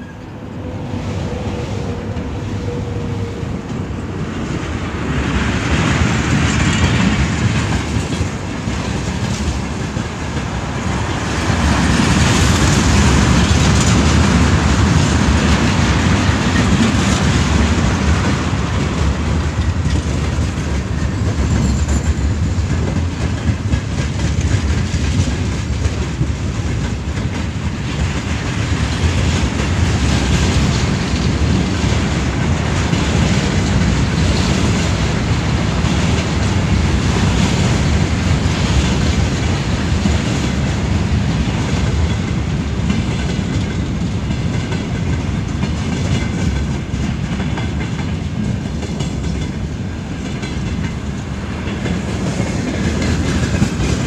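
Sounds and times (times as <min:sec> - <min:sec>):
freight train wheels clattering: 0:01.2 - 0:54.0.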